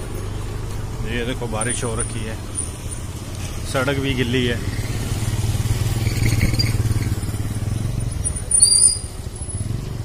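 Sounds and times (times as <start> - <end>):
scooter engine rumbling: 0.0 - 10.0.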